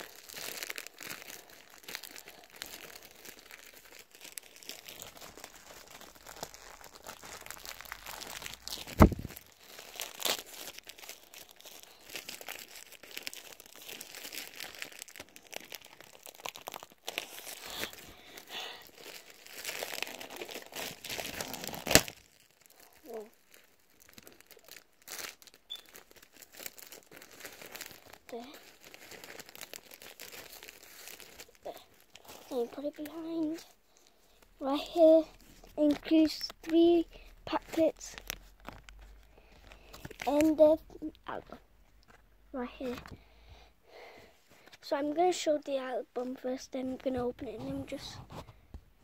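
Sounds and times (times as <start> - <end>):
packaging crinkling and tearing: 0.0 - 43.2.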